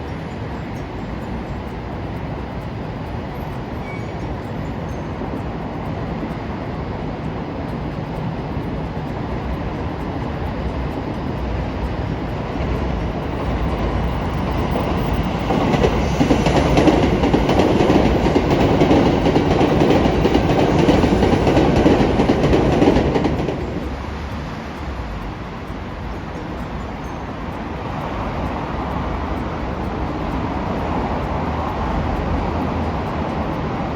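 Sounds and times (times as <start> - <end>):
train passing: 0.0 - 33.9.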